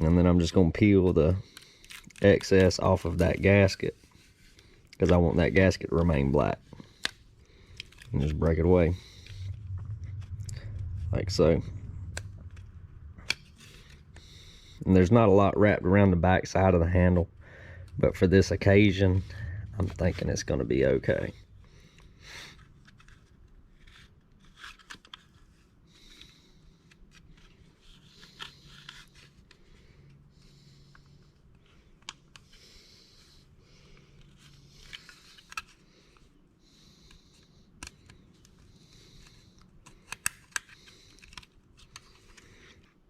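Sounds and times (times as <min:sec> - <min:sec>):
vinyl film crinkling and scraping: 0:00.0 - 0:43.0.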